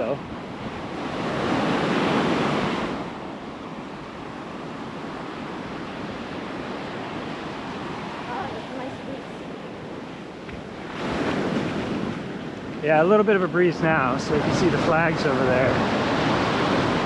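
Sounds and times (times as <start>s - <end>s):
steady wash of surf: 0.0s - 17.0s
wave breaking on beach: 0.0s - 17.0s.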